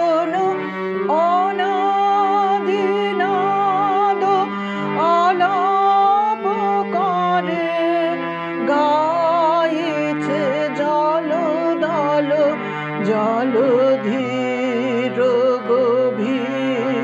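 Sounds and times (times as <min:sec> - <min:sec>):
sustained accompanying notes: 0:00.0 - 0:16.8
person singing devotional song: 0:00.0 - 0:17.0.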